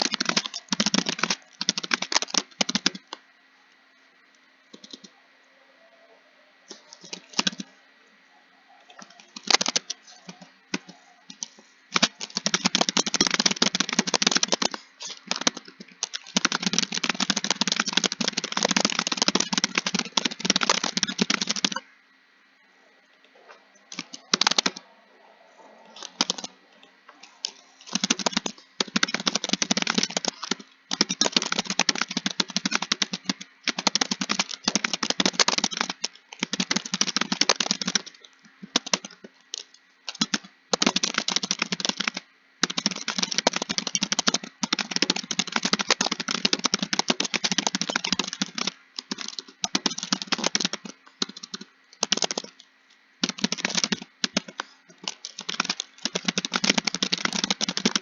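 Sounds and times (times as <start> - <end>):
keyboard typing: 0.0 - 3.2, 4.7 - 5.1, 6.7 - 7.7, 8.8 - 21.9, 23.7 - 24.9, 25.8 - 58.0.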